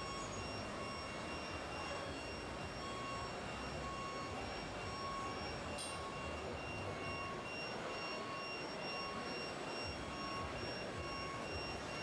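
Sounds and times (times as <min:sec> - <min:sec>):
hydraulic pump whine: 0:00.0 - 0:12.0.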